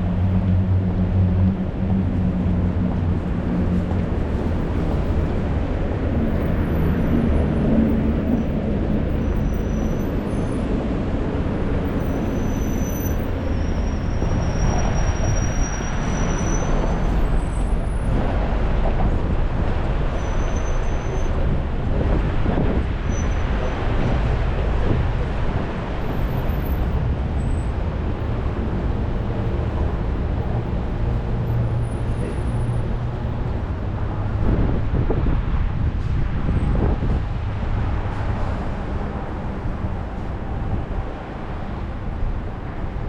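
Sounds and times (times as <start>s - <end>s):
large vehicle engine humming: 0.0s - 43.0s
traffic on wet road: 0.0s - 43.0s.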